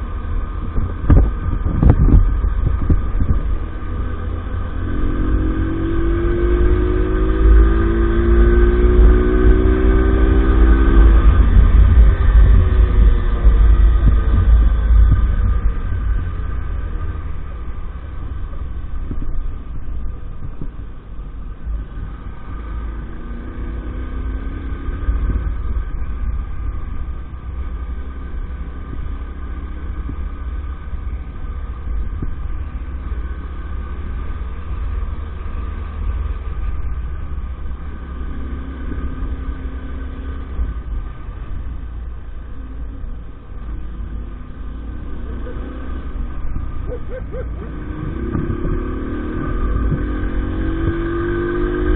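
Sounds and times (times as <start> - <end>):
heavy low rumble: 0.0 - 51.9
moped engine running: 0.0 - 51.9.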